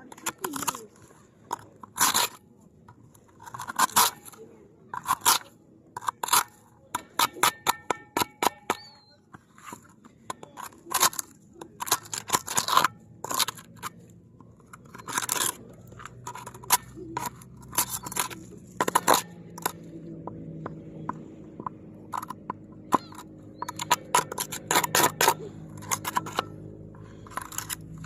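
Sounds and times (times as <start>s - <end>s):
knife scraping shells: 0.0s - 28.0s.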